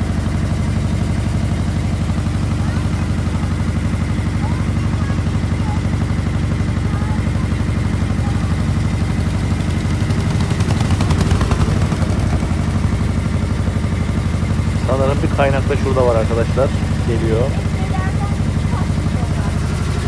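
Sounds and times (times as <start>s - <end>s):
boat engine chugging: 0.0s - 20.0s
passing boat: 0.0s - 20.0s.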